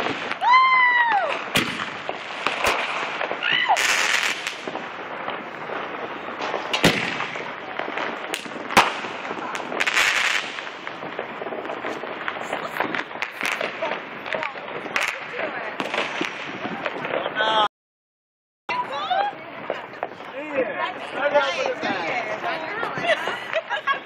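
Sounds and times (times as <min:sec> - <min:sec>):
fireworks bangs: 0:00.0 - 0:17.7, 0:18.7 - 0:24.0.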